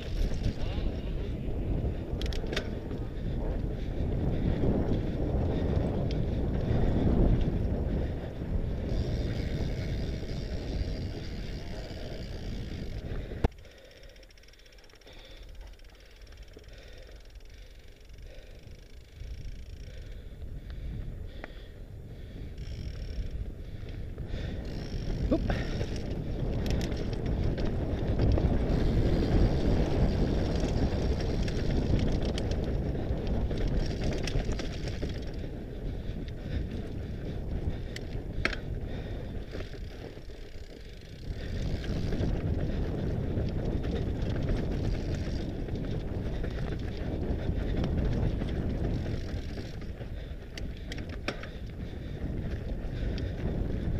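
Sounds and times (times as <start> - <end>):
wind buffeting microphone: 0.0 - 13.7, 16.4 - 53.9
bike tyres rumbling on gravel: 0.0 - 53.9.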